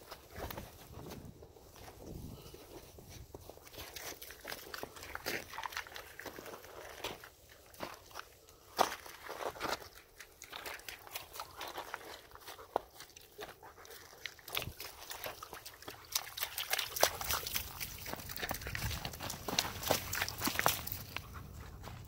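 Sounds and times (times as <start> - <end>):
footsteps crunching in snow: 0.0 - 13.6, 17.2 - 22.0.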